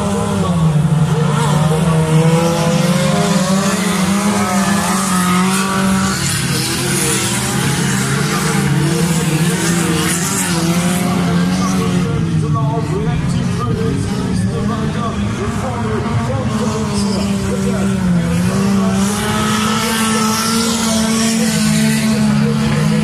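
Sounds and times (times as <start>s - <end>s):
stock car engines racing: 0.0s - 23.0s.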